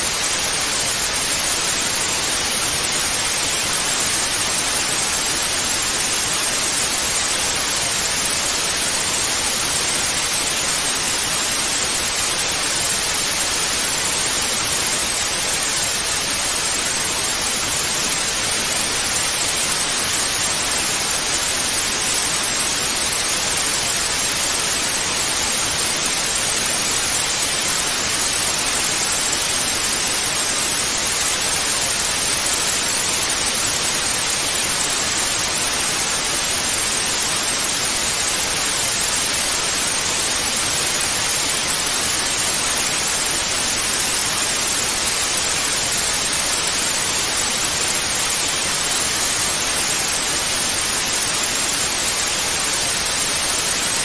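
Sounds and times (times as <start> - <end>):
tv static hiss: 0.0 - 54.0.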